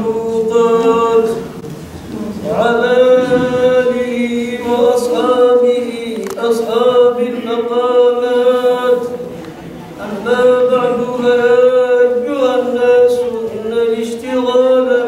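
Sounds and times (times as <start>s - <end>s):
man chanting into a microphone: 0.0s - 9.4s, 10.0s - 15.0s.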